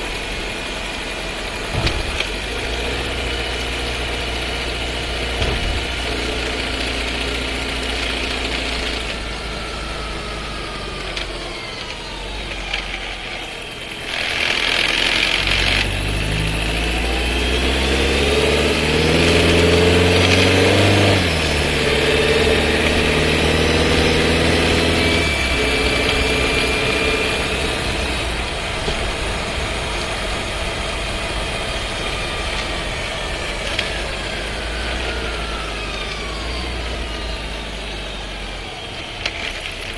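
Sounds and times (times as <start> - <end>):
car engine accelerating: 0.0 - 39.9
gearbox rattling: 0.0 - 39.9.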